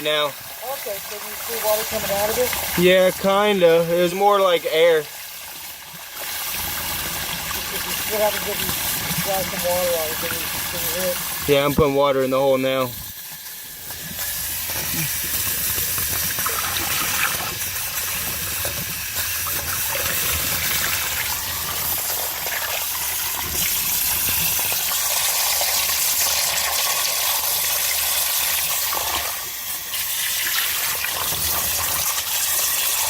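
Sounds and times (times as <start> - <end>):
water pouring into a hole: 0.0 - 33.0.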